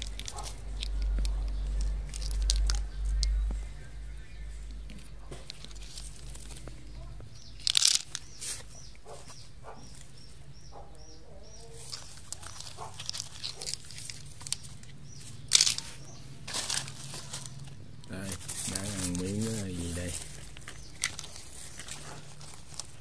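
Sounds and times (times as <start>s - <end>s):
dry leaves rustling and crunching: 0.0s - 10.4s, 11.5s - 23.0s.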